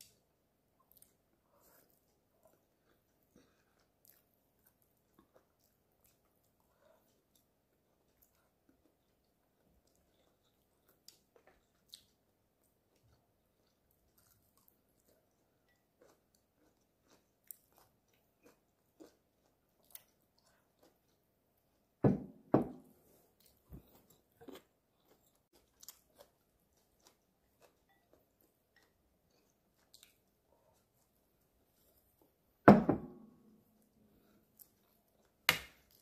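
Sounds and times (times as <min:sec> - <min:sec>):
chewing and biting food: 0:00.8 - 0:21.8, 0:23.3 - 0:31.2.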